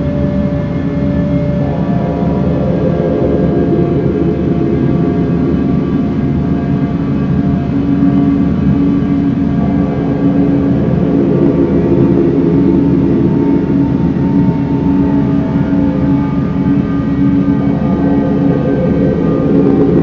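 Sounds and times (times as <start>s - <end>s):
ambient noise drone: 0.0s - 20.0s.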